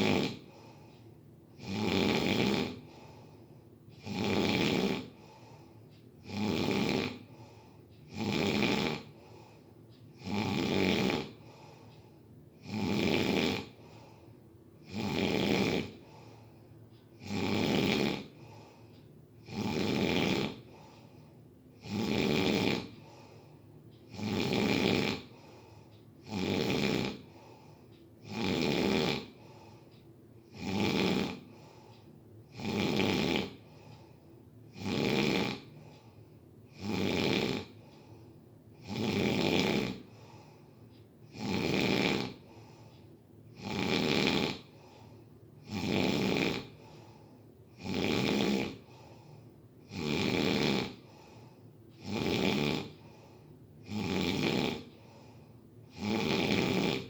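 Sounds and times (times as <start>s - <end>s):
person snoring: 0.0s - 0.9s, 1.5s - 3.4s, 4.0s - 9.6s, 10.2s - 11.9s, 12.6s - 14.2s, 14.8s - 16.4s, 17.2s - 21.2s, 21.8s - 29.8s, 30.5s - 31.9s, 32.5s - 34.1s, 34.7s - 38.2s, 38.8s - 40.7s, 41.3s - 42.9s, 43.5s - 57.0s.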